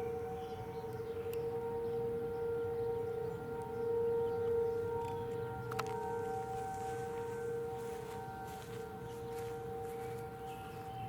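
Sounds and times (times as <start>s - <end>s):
outdoor warning siren steady tone: 0.0s - 11.0s.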